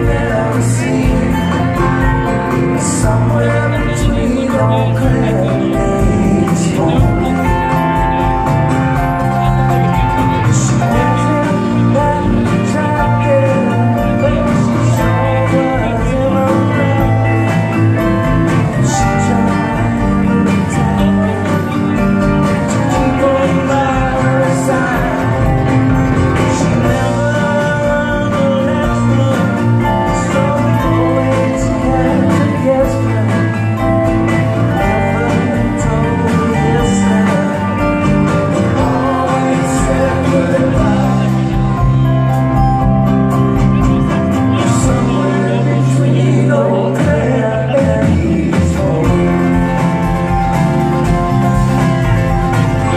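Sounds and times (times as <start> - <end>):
lead vocal singing: 0.0 - 8.3, 10.3 - 42.3, 44.4 - 50.1
live band playing: 0.0 - 52.9.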